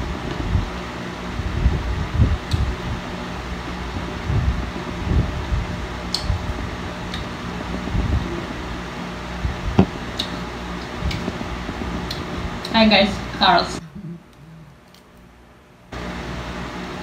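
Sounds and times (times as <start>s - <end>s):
electric fan whirring: 0.0s - 17.0s.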